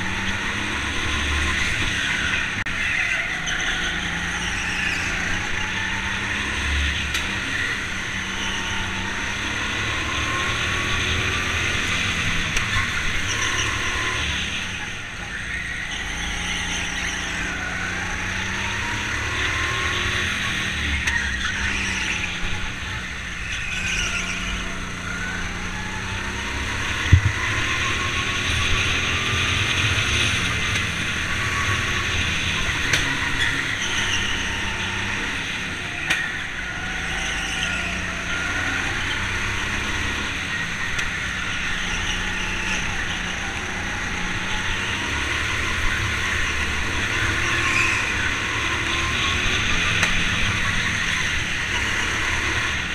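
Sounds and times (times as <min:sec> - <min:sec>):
go-kart motor revving: 0:00.0 - 0:52.9.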